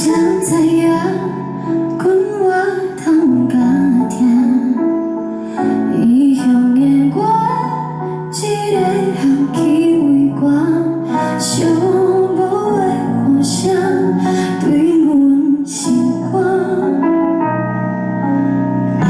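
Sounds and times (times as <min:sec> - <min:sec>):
woman singing slow song: 0:00.0 - 0:17.5
instrumental backing music: 0:00.0 - 0:19.0.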